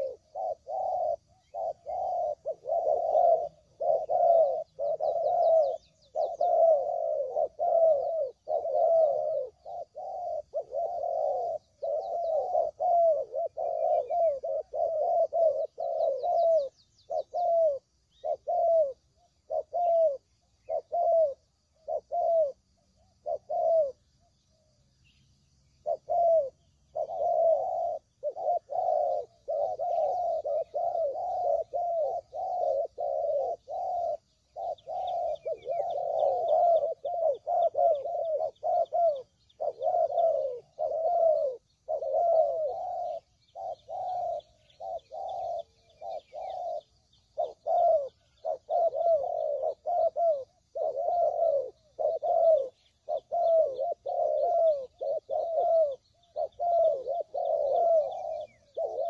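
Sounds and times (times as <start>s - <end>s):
doves cooing: 0.0s - 59.0s
small birds chirping: 0.0s - 59.0s.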